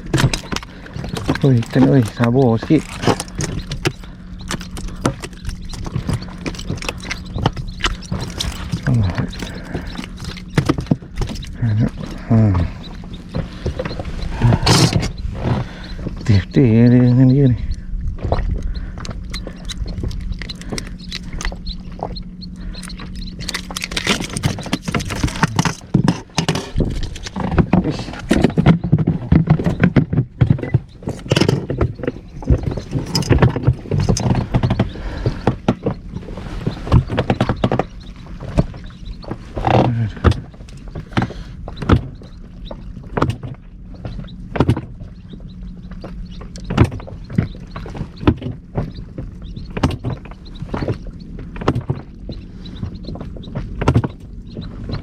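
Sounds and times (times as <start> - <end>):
knocks and clatter of fishing gear: 0.0 - 45.2, 46.0 - 55.0
steady low hum: 0.0 - 55.0.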